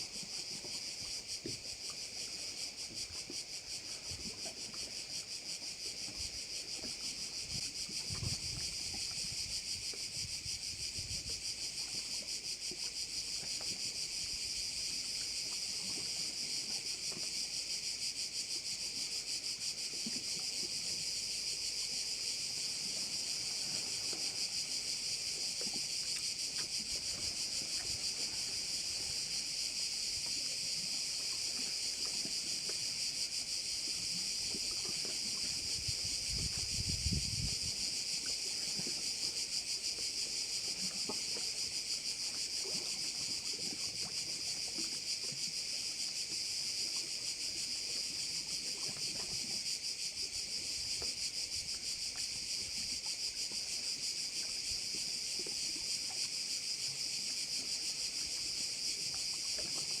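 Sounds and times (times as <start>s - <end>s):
cicadas buzzing: 0.0s - 60.0s.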